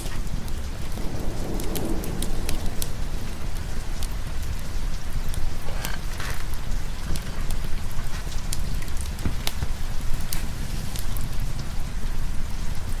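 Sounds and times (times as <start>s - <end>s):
heavy rain: 0.0s - 13.0s
low rumble of thunder: 0.0s - 13.0s
wood fire crackling: 0.0s - 13.0s.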